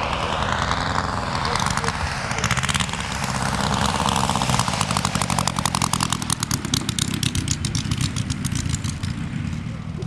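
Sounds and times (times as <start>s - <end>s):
model aircraft engine running: 0.0s - 10.0s.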